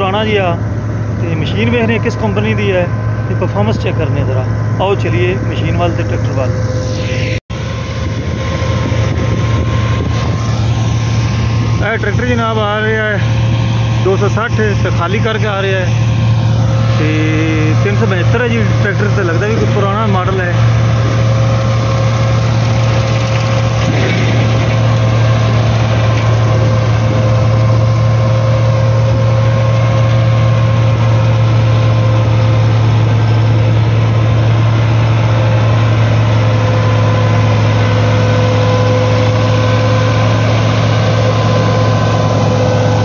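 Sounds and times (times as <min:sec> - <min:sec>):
straw chopper whine: 0:00.0 - 0:43.0
tractor diesel engine droning: 0:00.0 - 0:43.0.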